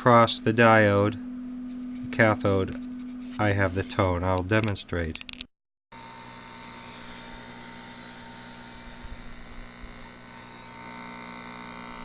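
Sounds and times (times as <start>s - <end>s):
mains hum and buzz: 0.0s - 5.2s, 5.9s - 12.0s.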